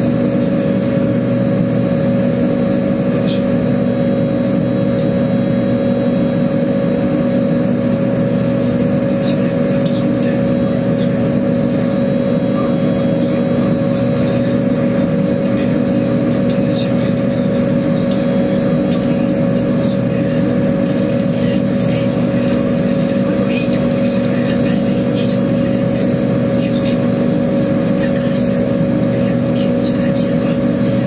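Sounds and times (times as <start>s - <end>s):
boat turbine drone: 0.0s - 31.0s.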